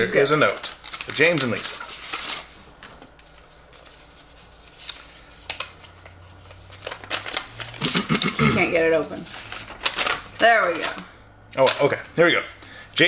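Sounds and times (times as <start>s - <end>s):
paper rustling and crackling: 0.0s - 8.2s, 8.8s - 11.0s.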